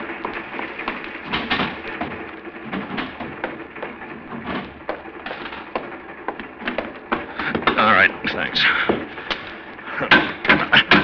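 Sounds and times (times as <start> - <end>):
train rattling rumble: 0.0 - 11.0
sharp knocks: 0.6 - 8.1, 8.8 - 11.0.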